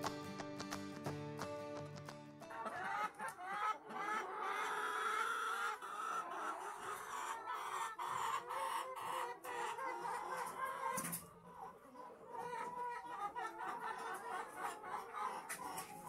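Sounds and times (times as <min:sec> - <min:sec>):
hens clucking: 0:02.4 - 0:16.0.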